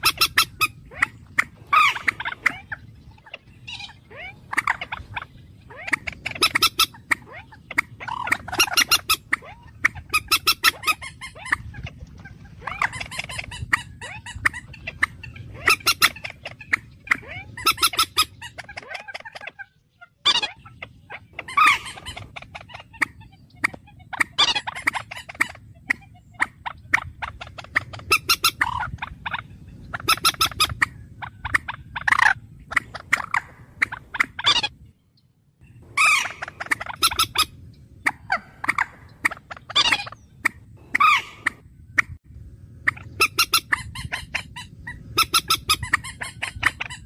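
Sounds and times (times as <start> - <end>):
birds calling harshly: 0.0 - 47.0.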